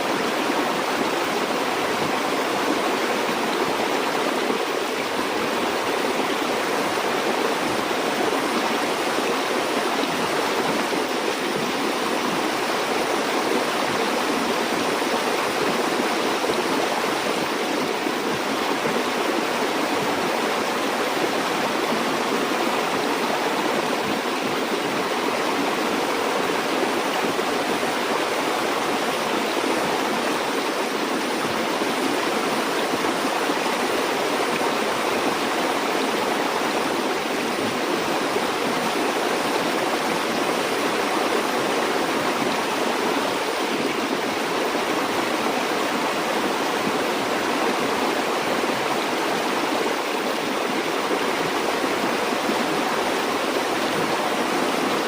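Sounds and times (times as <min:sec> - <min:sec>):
stream water flowing over stones: 0:00.0 - 0:55.0.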